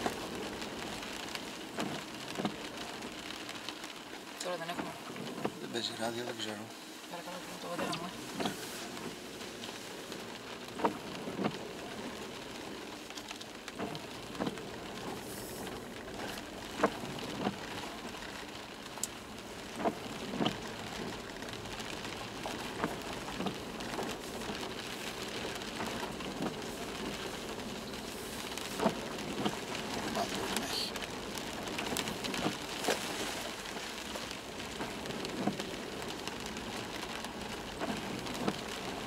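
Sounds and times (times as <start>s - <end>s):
road noise inside car: 0.0s - 39.0s.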